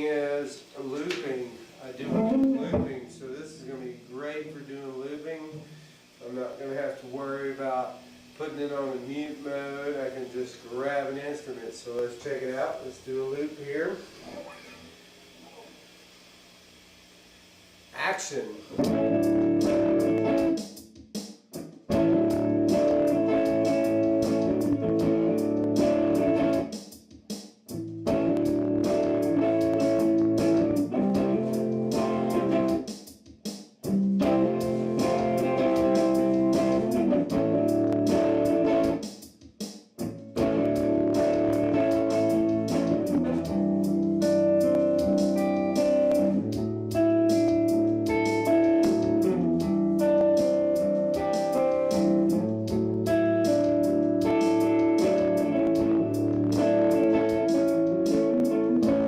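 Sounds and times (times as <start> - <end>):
looped electric guitar phrase: 0.0 - 14.9, 18.0 - 20.6, 21.9 - 26.7, 27.7 - 32.9, 33.9 - 39.0, 40.0 - 59.0.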